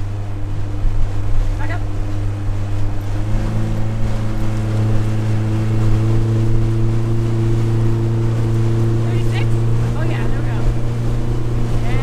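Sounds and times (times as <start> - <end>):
boat motor running under throttle: 0.0 - 12.0
water and wind noise: 0.0 - 12.0.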